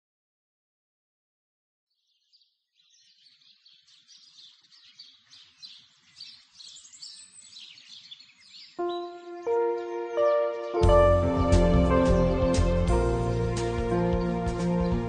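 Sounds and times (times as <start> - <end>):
birds chirping: 2.0 - 15.0.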